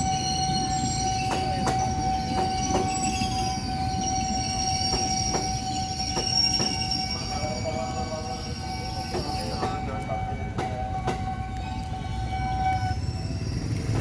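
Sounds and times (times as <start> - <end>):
crossing alarm tone: 0.0 - 14.0
train rumble: 0.0 - 14.0
train wheels clacking: 0.0 - 14.0
train wheels squealing: 0.0 - 14.0.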